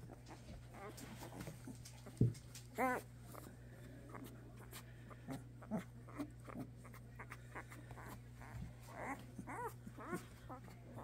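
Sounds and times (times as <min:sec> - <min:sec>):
puppies whimpering and squeaking: 0:00.0 - 0:03.5, 0:04.1 - 0:11.0.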